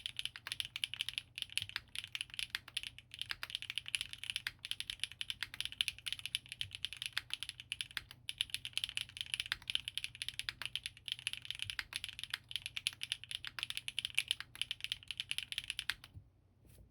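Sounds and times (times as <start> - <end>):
fast mechanical keyboard typing: 0.0 - 16.1.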